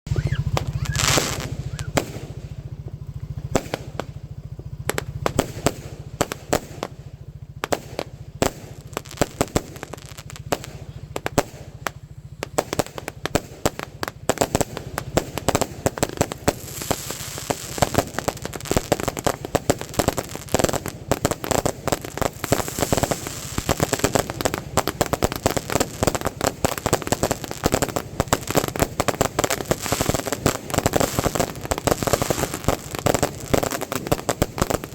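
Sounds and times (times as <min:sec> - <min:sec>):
firework bang: 0:00.1 - 0:34.9
fireworks popping and crackling: 0:00.1 - 0:34.9.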